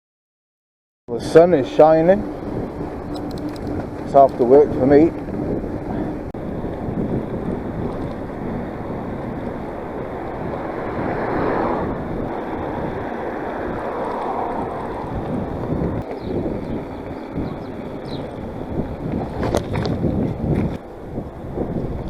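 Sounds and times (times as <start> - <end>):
wind rushing on microphone: 1.1 - 22.0.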